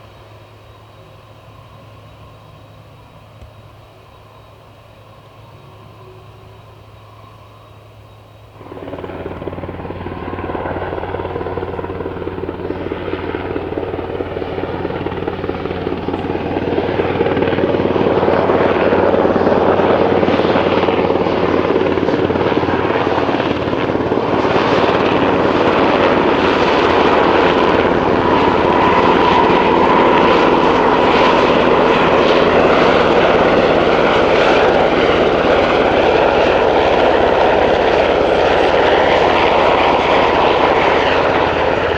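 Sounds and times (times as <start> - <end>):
helicopter running: 5.0 - 41.9.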